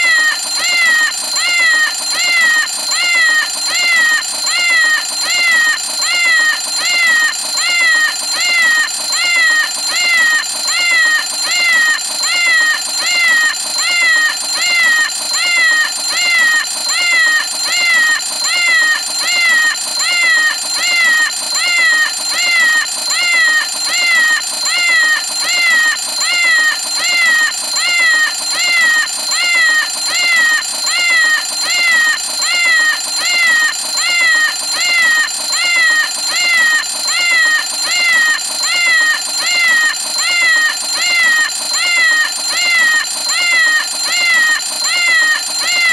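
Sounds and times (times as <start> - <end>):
alarm clock meowing: 0.0 - 45.9
high ringing tone: 0.0 - 45.9.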